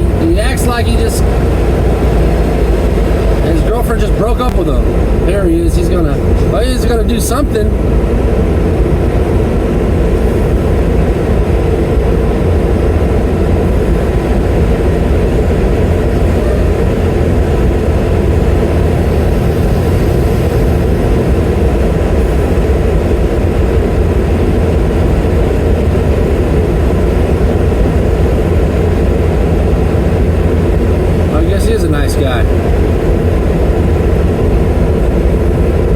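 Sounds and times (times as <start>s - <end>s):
truck diesel engine droning: 0.0s - 35.9s.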